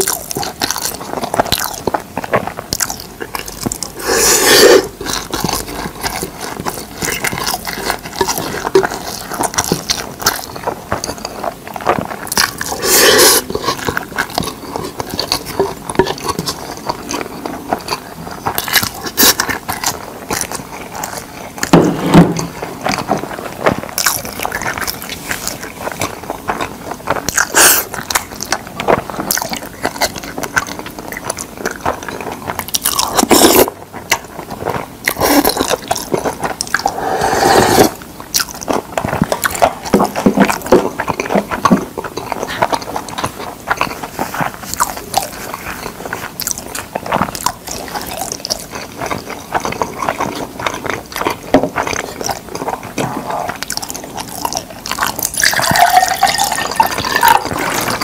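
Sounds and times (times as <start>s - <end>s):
clicking and smacking mouth sounds: 0.0s - 58.0s
wet chewing: 0.0s - 58.0s.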